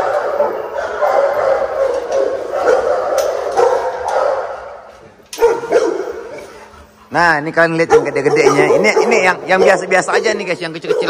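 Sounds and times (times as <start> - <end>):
dogs barking: 0.0 - 7.0, 7.6 - 11.0.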